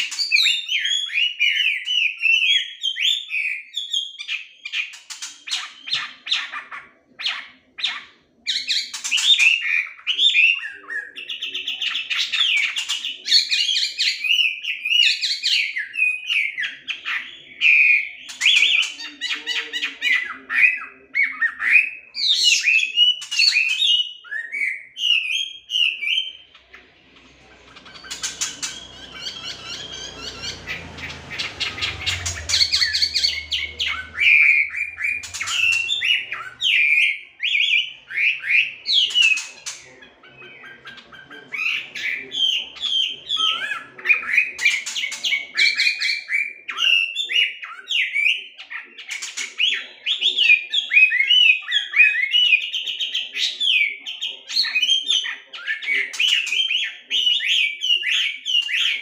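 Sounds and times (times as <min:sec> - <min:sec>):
songbird singing whistles and chatter: 0:00.0 - 0:59.0.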